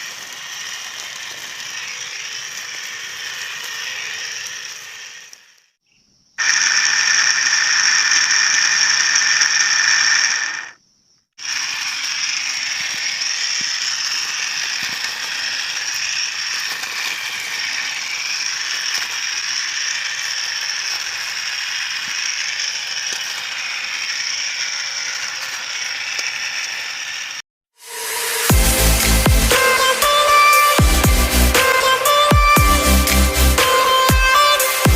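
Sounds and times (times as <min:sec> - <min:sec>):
electric grass cutter running: 0:00.0 - 0:05.7, 0:06.4 - 0:10.8, 0:11.4 - 0:34.9.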